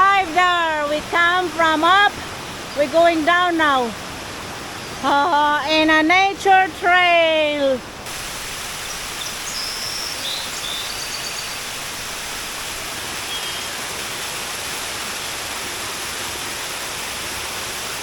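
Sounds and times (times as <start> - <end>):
waterfall and stream rushing: 0.0 - 18.0.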